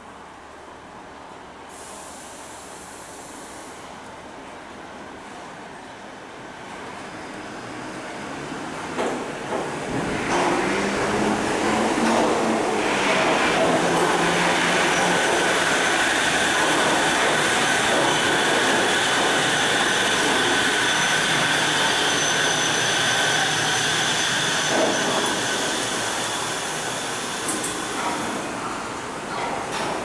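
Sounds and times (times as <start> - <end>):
monorail train rumbling: 0.0 - 30.0.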